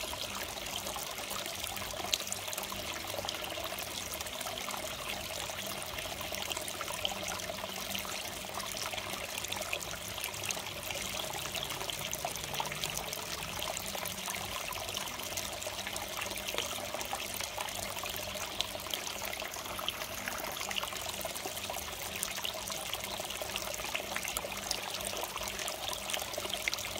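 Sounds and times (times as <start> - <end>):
water splashing into pond: 0.0 - 26.9.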